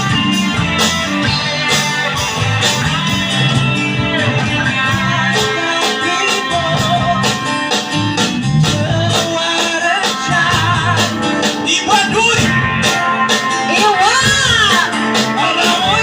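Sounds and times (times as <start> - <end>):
drum beat: 0.0 - 16.0
guitar: 0.0 - 16.0
pitch-bending melody line: 0.0 - 16.0.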